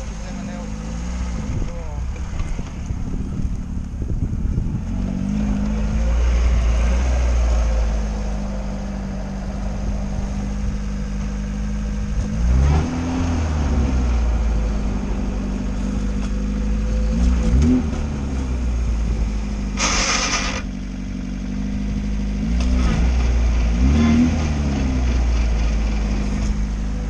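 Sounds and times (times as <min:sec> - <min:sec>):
car engine revving off-road: 0:00.0 - 0:27.0.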